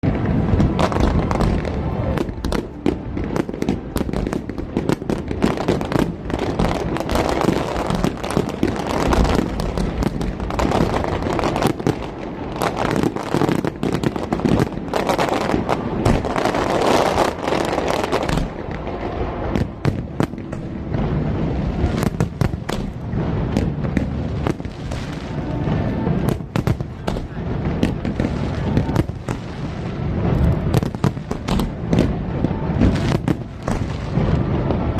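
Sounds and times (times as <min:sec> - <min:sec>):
fireworks bangs and crackles: 0:00.0 - 0:34.9.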